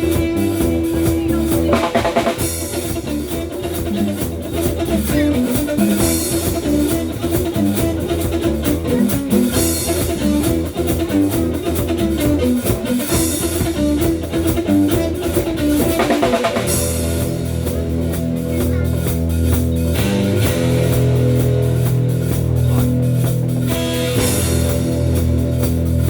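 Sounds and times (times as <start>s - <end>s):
drum kit steady beat: 0.0s - 26.0s
electric guitar line: 0.0s - 26.0s.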